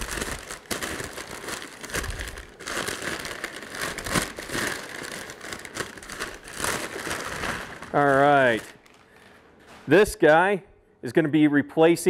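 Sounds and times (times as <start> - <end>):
packing paper crumpling: 0.0 - 10.0.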